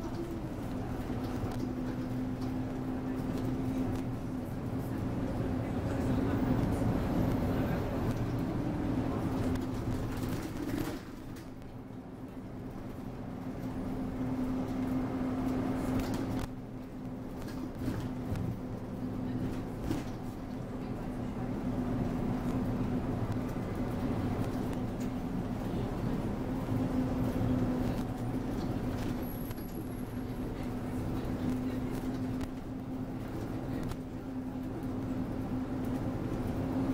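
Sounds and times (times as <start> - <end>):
bus engine drone: 0.0 - 36.9
road noise: 0.0 - 36.9.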